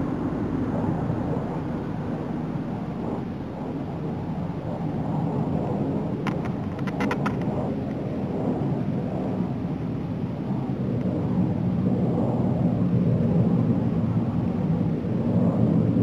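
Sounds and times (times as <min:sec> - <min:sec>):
distant fighter jets rumbling: 0:00.0 - 0:16.0.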